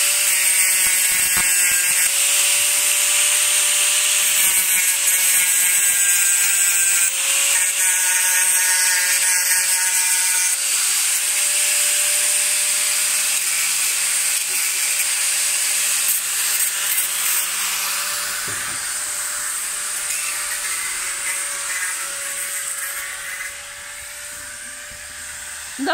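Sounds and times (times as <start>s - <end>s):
angle grinder motor whine: 0.0s - 4.7s, 5.5s - 25.9s.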